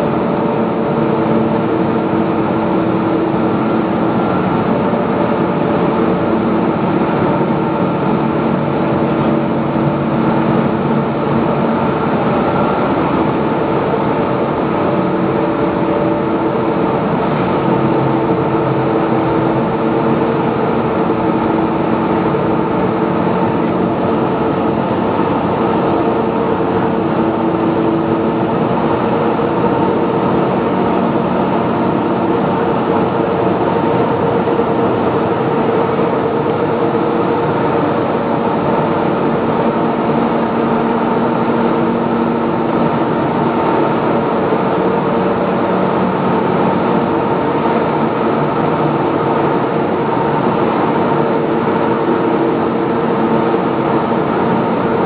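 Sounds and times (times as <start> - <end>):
constant multi-tone hum: 0.0 - 55.0
industrial machinery din: 0.0 - 55.0.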